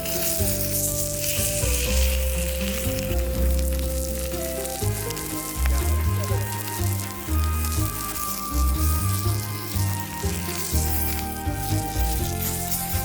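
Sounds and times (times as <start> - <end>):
patties sizzling in a pan: 0.0 - 13.0.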